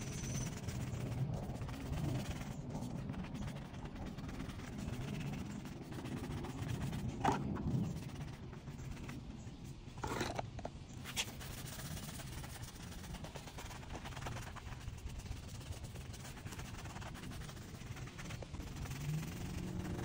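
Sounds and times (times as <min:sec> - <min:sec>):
brush scrubbing plastic: 0:00.0 - 0:20.0
steady low hum: 0:00.0 - 0:20.0.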